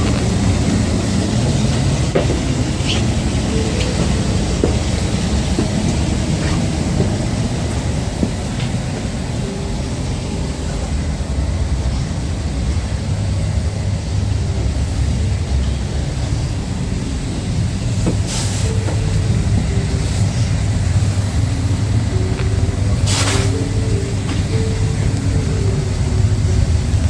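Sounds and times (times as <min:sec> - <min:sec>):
vehicle rumble: 0:00.0 - 0:27.0.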